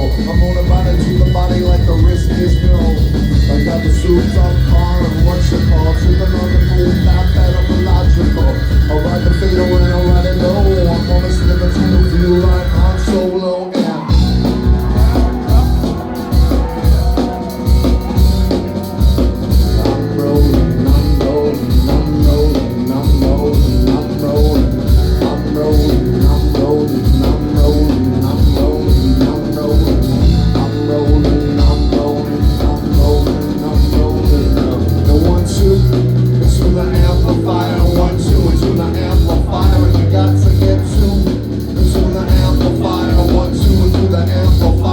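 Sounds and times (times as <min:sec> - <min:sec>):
drums: 0:00.0 - 0:44.9
rock band playing: 0:00.0 - 0:44.9.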